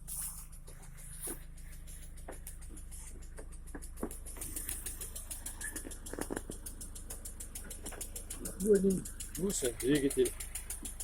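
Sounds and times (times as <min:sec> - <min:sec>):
car engine idling with knock: 0:00.0 - 0:11.0.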